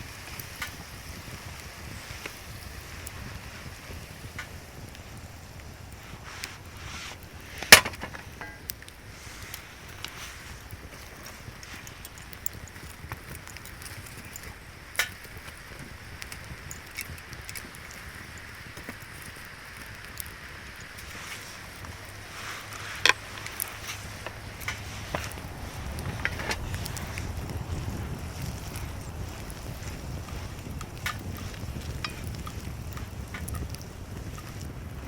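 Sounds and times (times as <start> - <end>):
sharp pops of fire: 0.0 - 35.0
wind rumble on microphone: 0.0 - 35.0
wood fire crackling: 0.0 - 35.0.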